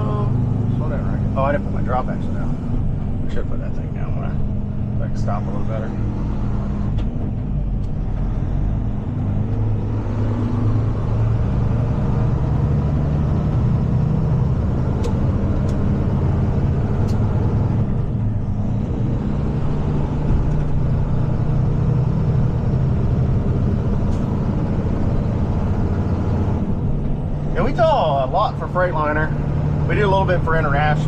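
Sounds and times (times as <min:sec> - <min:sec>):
truck diesel engine droning: 0:00.0 - 0:31.0.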